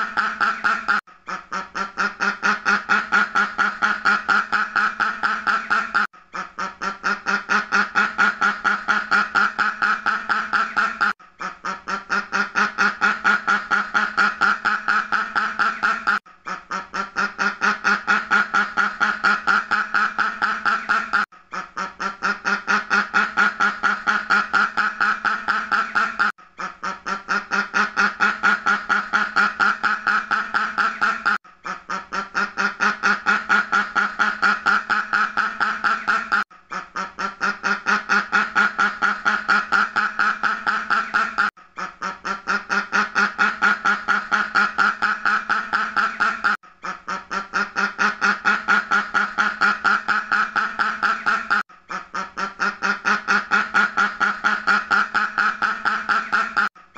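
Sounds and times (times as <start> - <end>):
duck quacking rapidly: 0.0 - 56.7.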